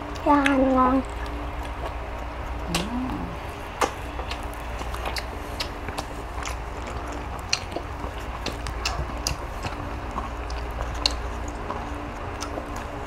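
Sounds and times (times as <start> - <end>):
people chewing food: 0.0 - 13.0
steady low hum: 0.0 - 13.0.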